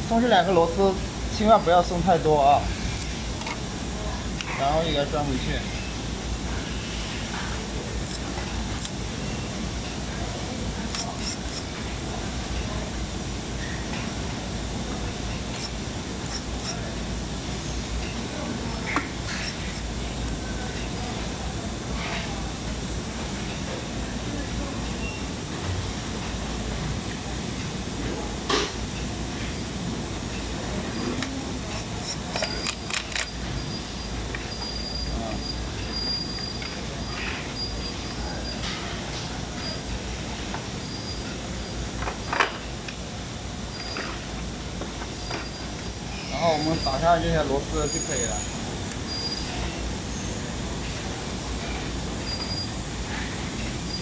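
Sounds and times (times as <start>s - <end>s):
workshop room rumble and hiss: 0.0s - 54.0s.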